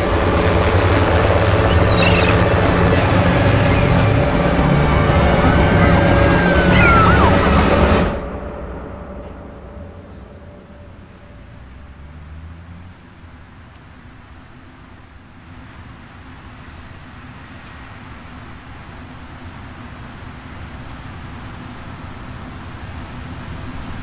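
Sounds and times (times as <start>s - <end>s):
city traffic rumble: 0.0s - 24.0s
faint hum: 0.0s - 24.0s.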